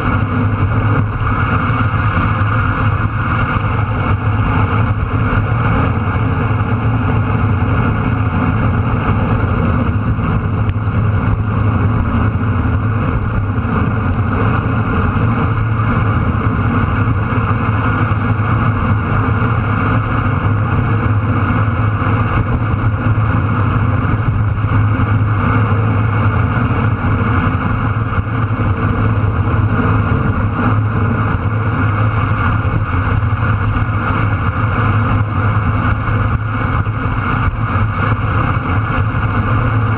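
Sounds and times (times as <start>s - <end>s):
tyre and road noise: 0.0s - 39.9s
wind on microphone: 0.0s - 39.9s.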